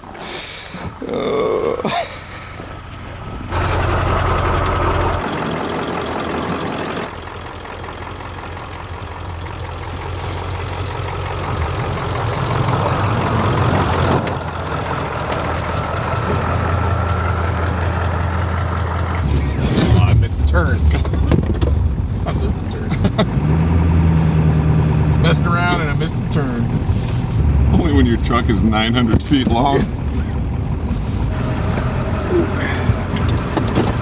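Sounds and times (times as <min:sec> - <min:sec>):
diesel truck engine running: 0:00.0 - 0:34.0
road noise: 0:00.0 - 0:34.0.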